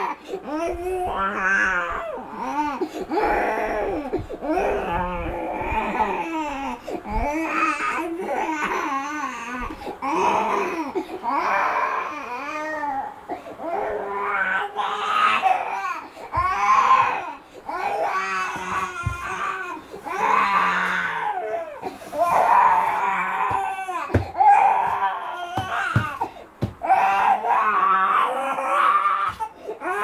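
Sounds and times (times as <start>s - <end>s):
toddler crying: 0.0s - 30.0s.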